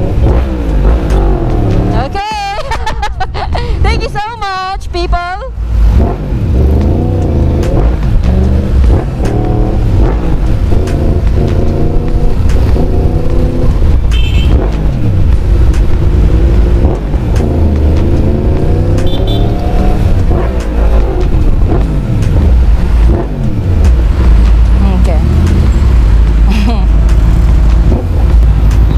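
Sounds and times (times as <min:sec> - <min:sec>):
motorcycle engine accelerating: 0:00.0 - 0:02.3, 0:05.6 - 0:28.9
low wind rumble: 0:00.0 - 0:28.9.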